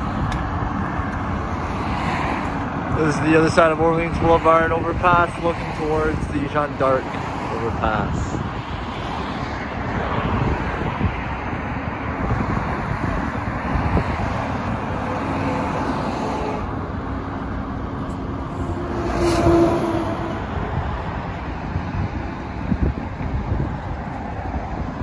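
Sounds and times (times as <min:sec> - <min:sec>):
highway traffic rush: 0:00.0 - 0:25.0
loud vehicle passing: 0:00.0 - 0:25.0.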